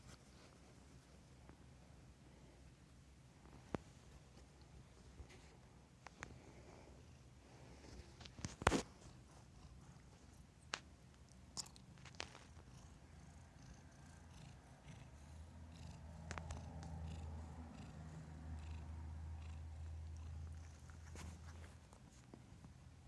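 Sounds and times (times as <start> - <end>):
cat purring: 3.5 - 10.7, 11.3 - 23.0.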